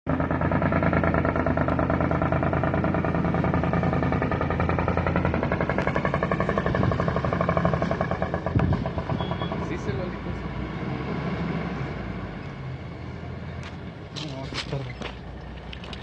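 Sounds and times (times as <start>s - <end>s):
diesel truck engine running: 0.1s - 16.0s.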